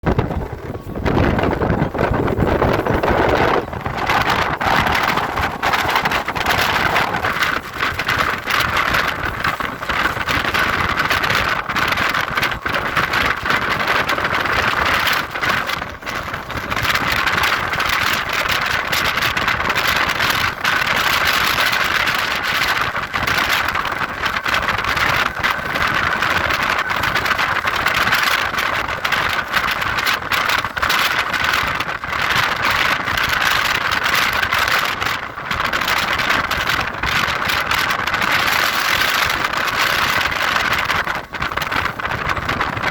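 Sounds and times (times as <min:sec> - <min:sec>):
moving train rolling: 0:00.0 - 0:42.9.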